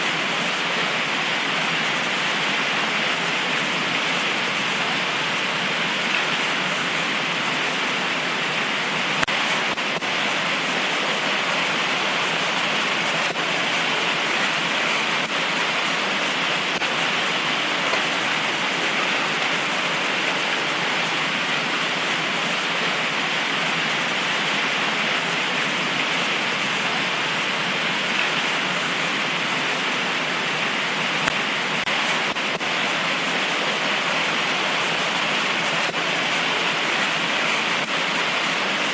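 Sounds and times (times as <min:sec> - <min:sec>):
heavy rain pouring: 0:00.0 - 0:38.9
ticks of raindrops: 0:00.0 - 0:38.9.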